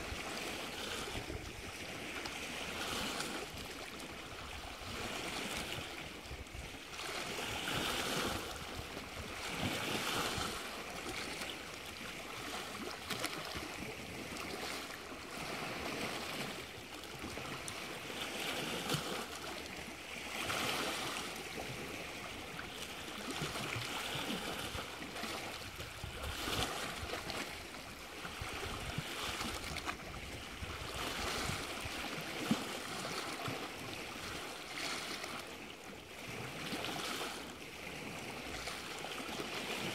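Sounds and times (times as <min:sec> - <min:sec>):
lake waves lapping: 0:00.0 - 0:39.9.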